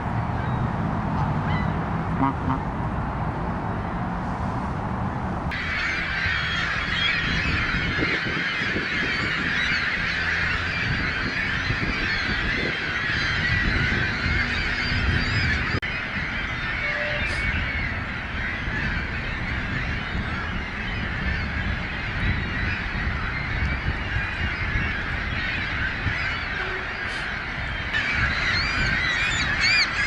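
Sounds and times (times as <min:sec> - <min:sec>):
flock of birds calling: 0:01.4 - 0:02.7, 0:05.5 - 0:30.0.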